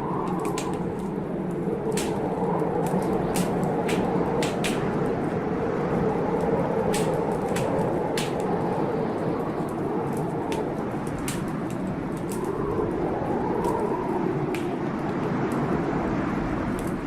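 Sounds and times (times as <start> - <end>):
heavy blizzard wind: 0.0 - 17.0
wood fire crackling: 0.0 - 17.0.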